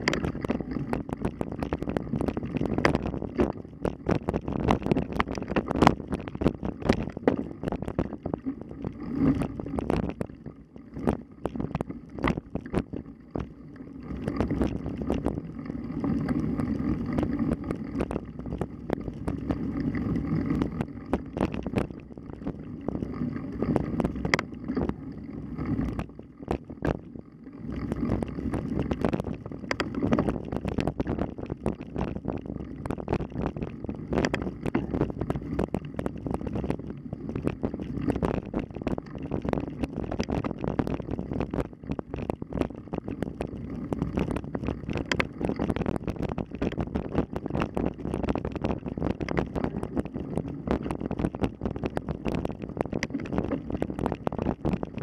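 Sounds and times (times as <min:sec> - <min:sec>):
bike rattling over rough trail: 0:00.0 - 0:55.0.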